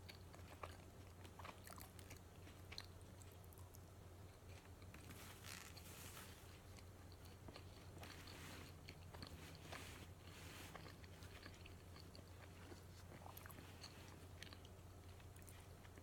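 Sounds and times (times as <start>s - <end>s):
biting and chewing: 0.0s - 16.0s.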